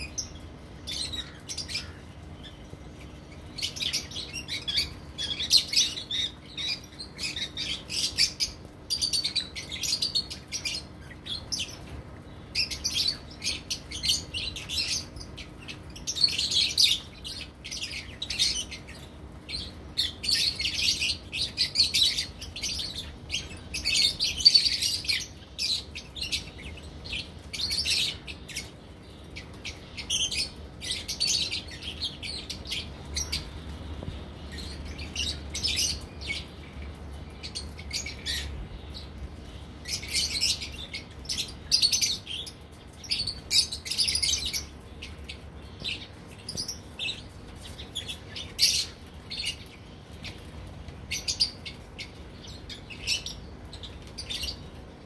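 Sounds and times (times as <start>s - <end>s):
lovebirds chattering: 0.0s - 55.0s.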